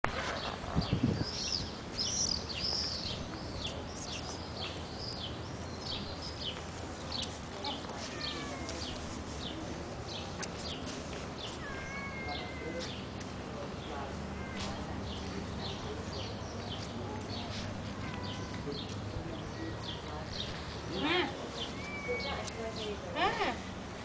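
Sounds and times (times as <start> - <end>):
small birds chirping: 0.1 - 23.7.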